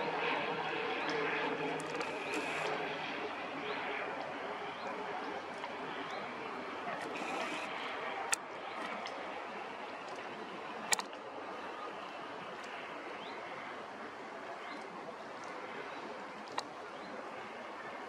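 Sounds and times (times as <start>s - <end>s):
outdoor ambient noise: 0.0s - 18.0s.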